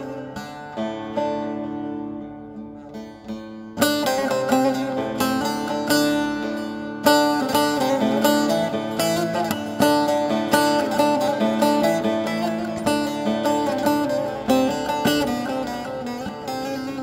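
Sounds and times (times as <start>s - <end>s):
plucked string instrument melody: 0.0s - 17.0s.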